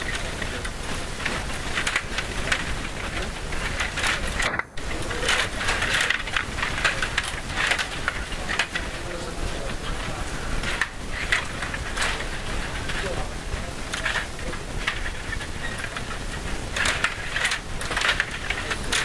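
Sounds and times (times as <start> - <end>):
table hockey rods clicking and rattling: 0.0 - 19.0.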